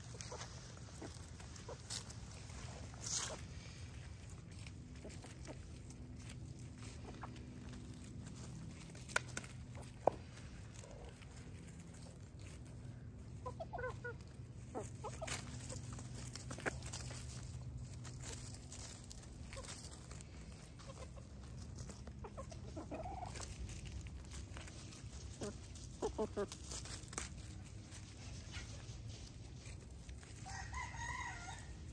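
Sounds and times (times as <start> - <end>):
steady low hum: 0.0 - 30.4
chickens clucking: 0.0 - 31.9.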